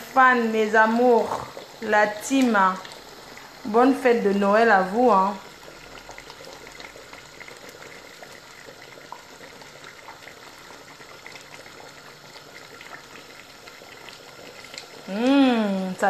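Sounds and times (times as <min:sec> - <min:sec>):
pot of sauce bubbling: 0:00.0 - 0:16.0.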